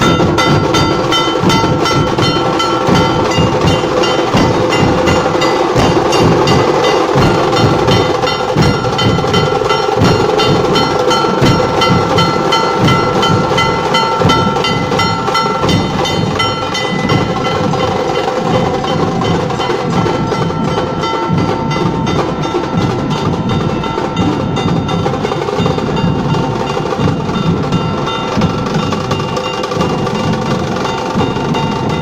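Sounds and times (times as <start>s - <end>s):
drums beaten in fast rhythm: 0.0s - 32.0s
metallic ringing tone: 0.0s - 32.0s.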